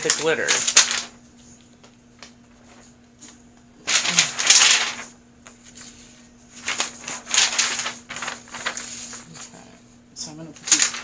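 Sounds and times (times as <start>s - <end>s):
paper rustling and sliding: 0.0s - 1.6s, 2.2s - 9.6s, 10.6s - 11.0s
faint steady hum: 0.0s - 11.0s.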